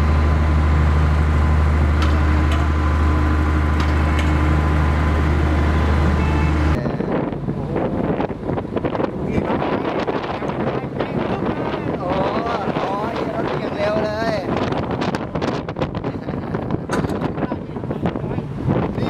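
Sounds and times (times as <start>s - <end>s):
heavy machinery droning: 0.0s - 19.0s
wind buffeting microphone: 0.0s - 19.0s.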